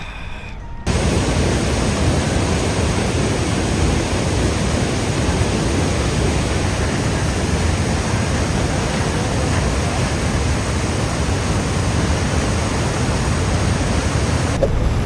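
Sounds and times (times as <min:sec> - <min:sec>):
waterfall roaring: 0:00.9 - 0:15.0.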